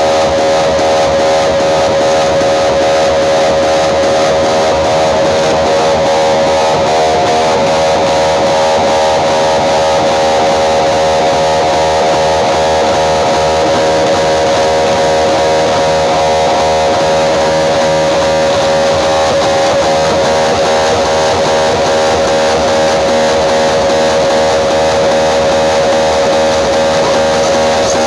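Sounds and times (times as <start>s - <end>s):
loud guitar-led music: 0.0s - 28.0s.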